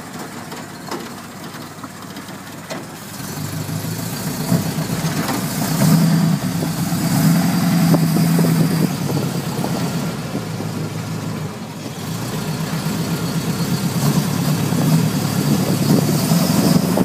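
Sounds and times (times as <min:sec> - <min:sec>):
truck engine running from inside cab: 0:00.0 - 0:17.0.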